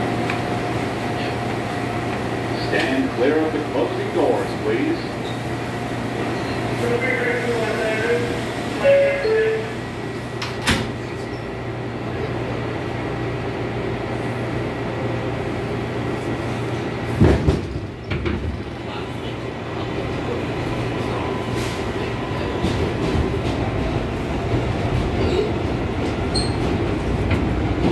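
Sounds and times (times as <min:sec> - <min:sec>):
subway car hum and rumble: 0:00.0 - 0:27.9
subway doors shutting: 0:00.0 - 0:27.9.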